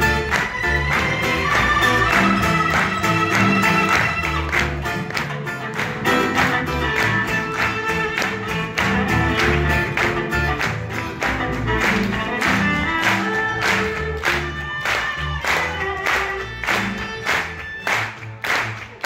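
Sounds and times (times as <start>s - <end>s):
strummed acoustic guitars: 0.0s - 18.3s
violin: 0.0s - 18.4s
upright double bass: 0.0s - 19.0s.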